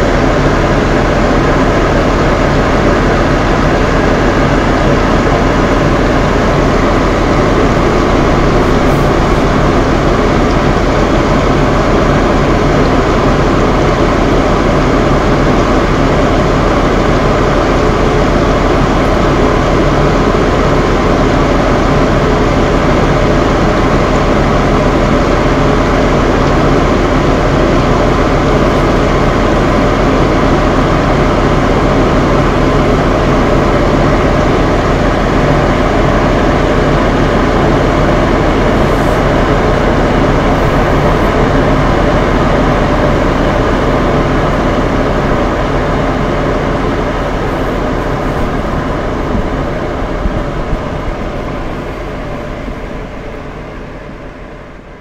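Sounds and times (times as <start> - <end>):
fan heaters running: 0.0 - 55.0.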